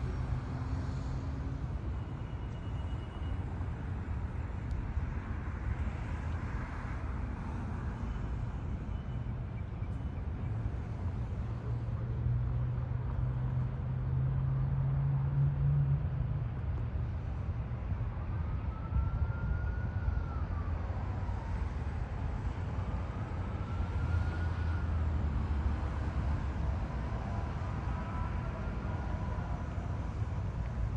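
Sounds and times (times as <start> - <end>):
road traffic rumble: 0.0 - 30.9.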